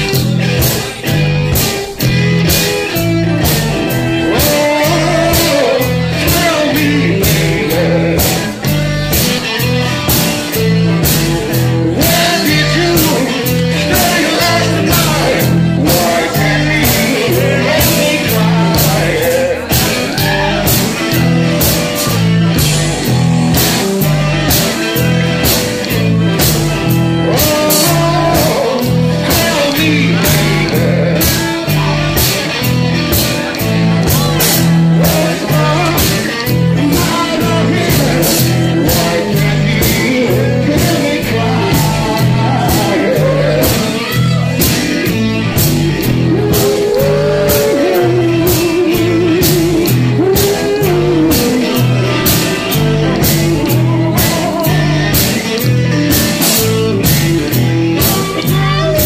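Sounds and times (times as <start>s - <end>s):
blues-rock band playing: 0.0s - 59.0s
driving drum beat: 0.0s - 59.0s
repeating bass riff: 0.0s - 59.0s
person singing: 3.4s - 8.8s, 9.4s - 22.3s, 23.0s - 59.0s.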